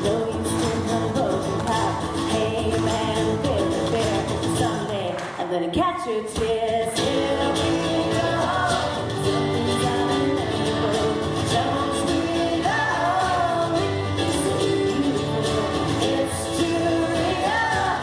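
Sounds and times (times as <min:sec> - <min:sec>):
acoustic band playing: 0:00.0 - 0:18.0.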